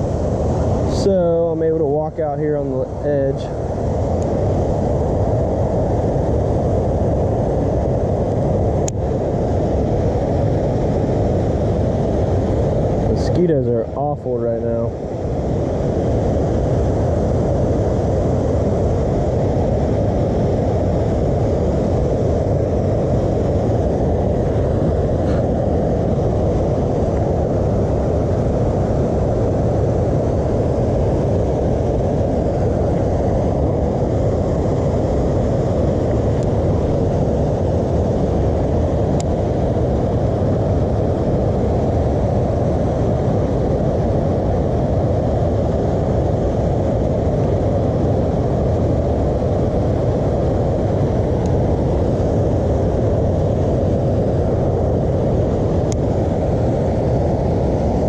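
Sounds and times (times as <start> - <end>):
low rushing noise: 0.0 - 58.0.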